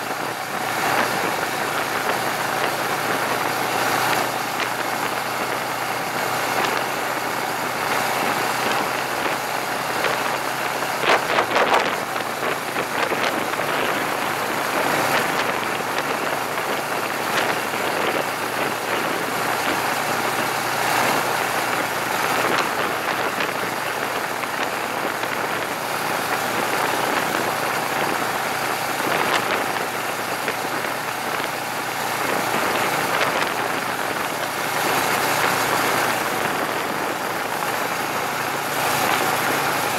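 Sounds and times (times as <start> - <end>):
motorcycle engine running: 0.0 - 39.9
wind rushing past camera: 0.0 - 39.9.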